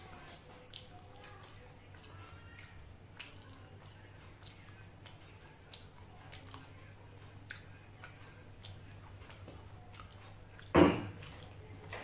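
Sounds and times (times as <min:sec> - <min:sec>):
person chewing food: 0:00.0 - 0:12.0
steady low hum: 0:00.0 - 0:12.0.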